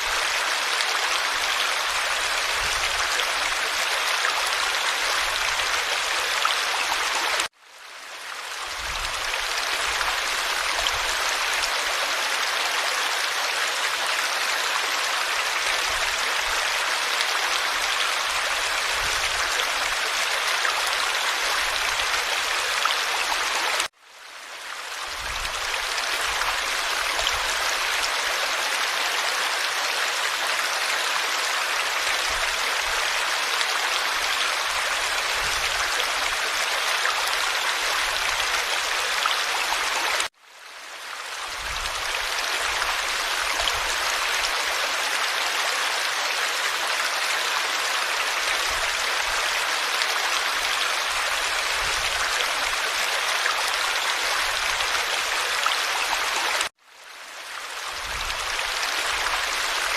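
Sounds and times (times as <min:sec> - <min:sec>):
forest stream babbling: 0:00.0 - 0:59.9.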